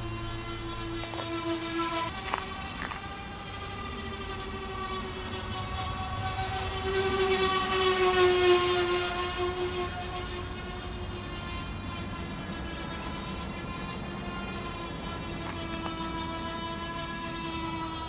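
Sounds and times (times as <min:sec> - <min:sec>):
model plane electric motor whine: 0:00.0 - 0:18.0.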